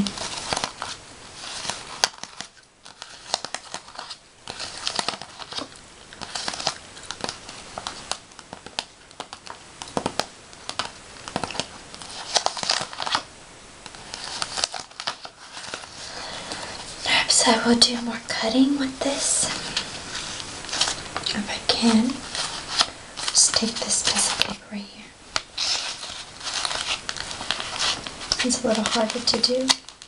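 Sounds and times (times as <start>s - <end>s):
paper crinkling and scratching: 0.0s - 24.6s, 25.3s - 30.0s.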